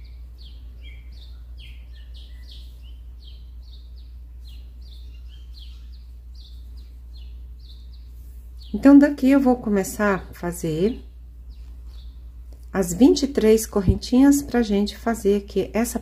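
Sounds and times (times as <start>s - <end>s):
small bird chirping: 0.0s - 16.0s
steady low hum: 0.0s - 16.0s.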